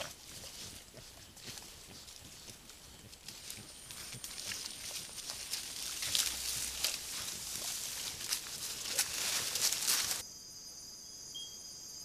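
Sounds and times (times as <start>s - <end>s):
animals rooting in soil: 0.0s - 10.2s.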